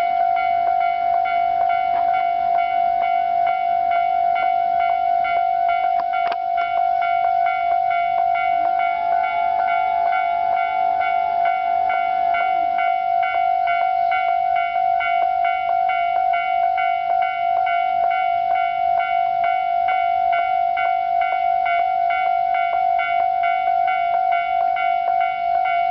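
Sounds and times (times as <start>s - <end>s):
level crossing bell dinging: 0.0s - 25.9s.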